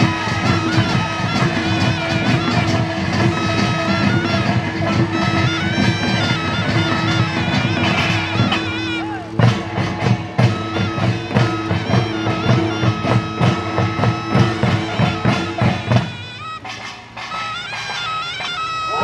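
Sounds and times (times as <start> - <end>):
drum and gong strokes: 0.0 - 19.0
shrill reed horn: 0.0 - 19.0.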